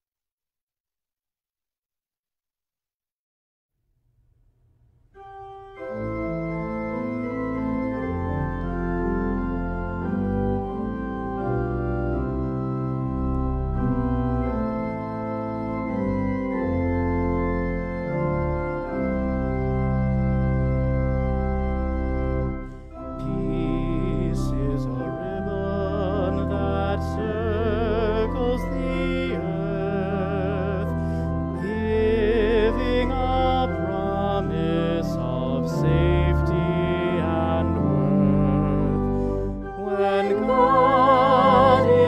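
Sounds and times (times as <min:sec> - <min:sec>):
organ playing a slow hymn: 0:05.1 - 0:42.0.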